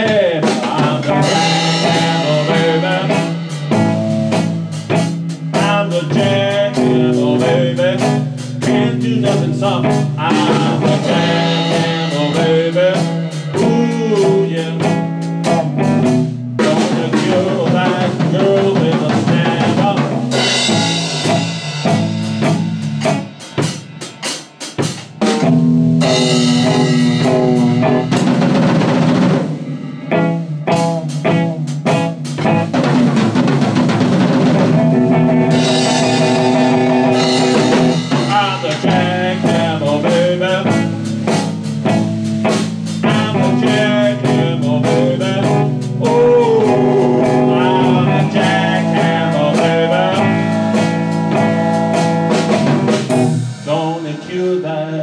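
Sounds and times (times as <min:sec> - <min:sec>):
drum beat: 0:00.0 - 0:54.1
electric guitar with bent notes: 0:00.0 - 0:55.0.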